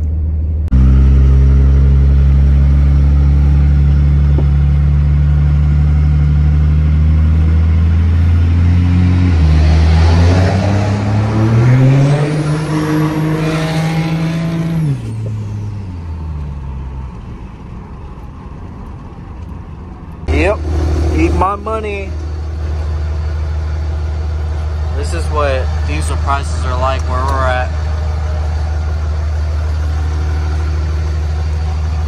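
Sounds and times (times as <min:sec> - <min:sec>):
diesel engine from inside cab: 0:00.0 - 0:32.0.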